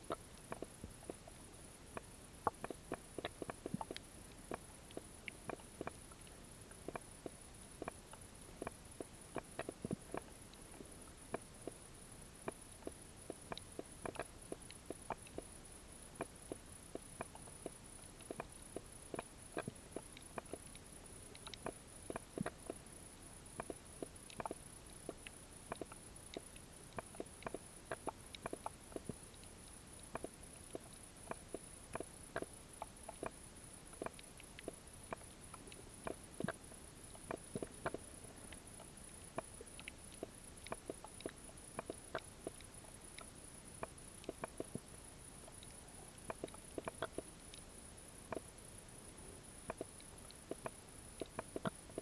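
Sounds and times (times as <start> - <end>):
faint high whine: 0.0 - 52.0
sharp clicks and snaps underwater: 0.0 - 52.0.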